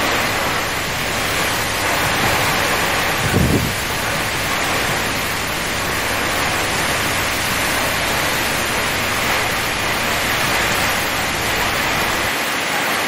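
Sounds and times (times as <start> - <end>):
steady rain on water: 0.0 - 13.0.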